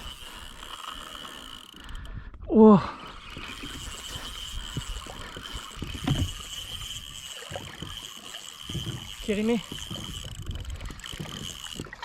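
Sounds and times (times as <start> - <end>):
fishing reel drag whining: 0.0 - 2.2, 2.8 - 12.0
water sloshing against hull: 0.0 - 12.0.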